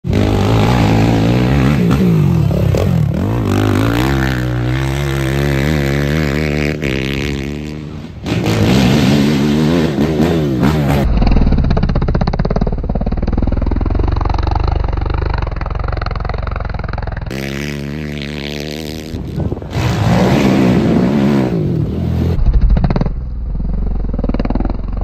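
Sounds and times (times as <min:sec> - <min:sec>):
atv engines revving: 0:00.0 - 0:22.4.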